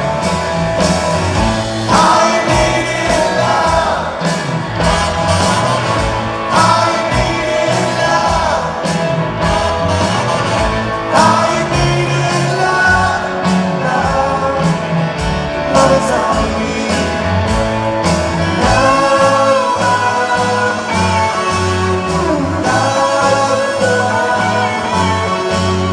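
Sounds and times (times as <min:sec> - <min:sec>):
bass: 0:00.0 - 0:25.9
guitars: 0:00.0 - 0:25.9
person singing lead vocal: 0:00.0 - 0:25.9
steady drum beat: 0:00.0 - 0:25.9.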